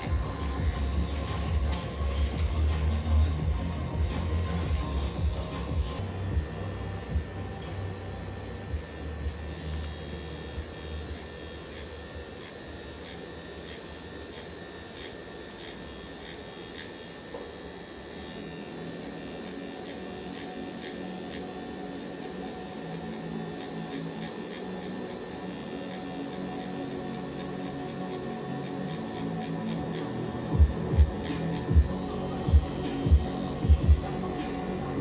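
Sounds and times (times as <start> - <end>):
tattoo machine buzzing: 0.0 - 35.0.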